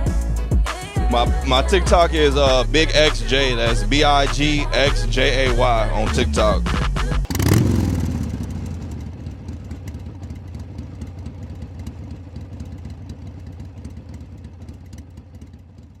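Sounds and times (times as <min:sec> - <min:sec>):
engine idling unevenly: 0:00.0 - 0:16.0.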